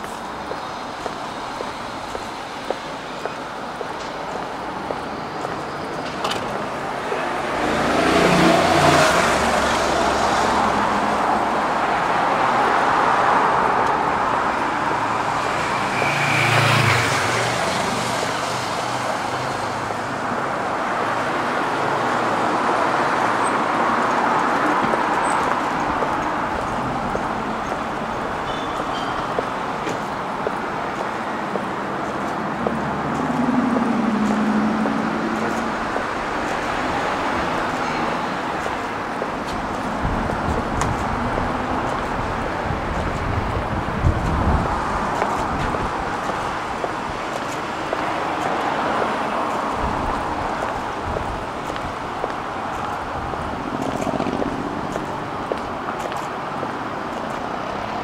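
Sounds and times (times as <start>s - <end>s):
hum of traffic: 0.0s - 58.0s
vehicles passing close by: 0.0s - 58.0s.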